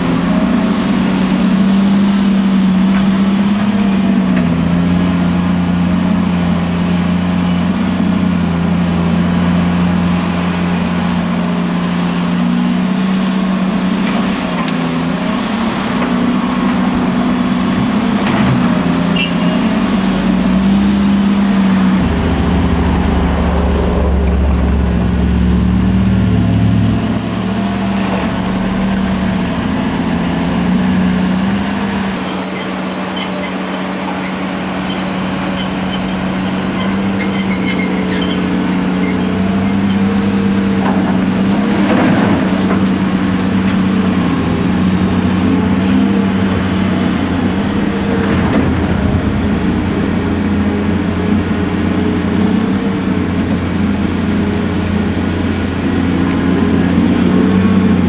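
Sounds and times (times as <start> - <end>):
heavy diesel engines droning: 0.0 - 58.0.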